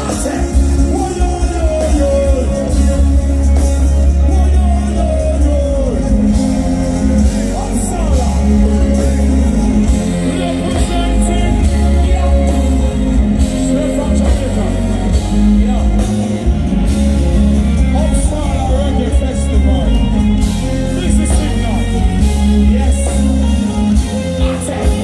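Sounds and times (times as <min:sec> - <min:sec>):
live reggae band playing: 0:00.0 - 0:25.0.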